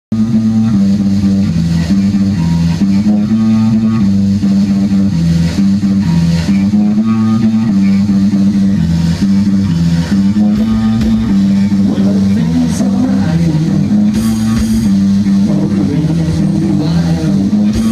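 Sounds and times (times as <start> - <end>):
bass guitar riff: 0.1 - 17.9
drum kit: 0.1 - 17.9
electric guitar: 0.1 - 17.9.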